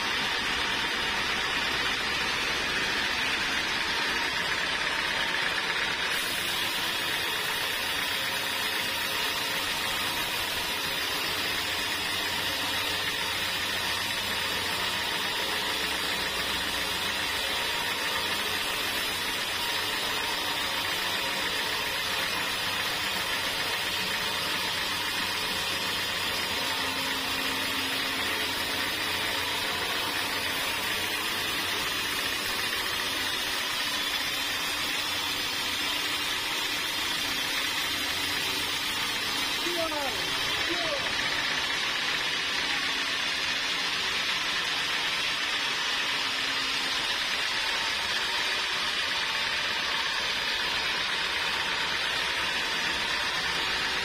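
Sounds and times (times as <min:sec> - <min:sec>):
mill motor hum: 0:00.0 - 0:54.0
saw blade cutting log: 0:00.0 - 0:54.0.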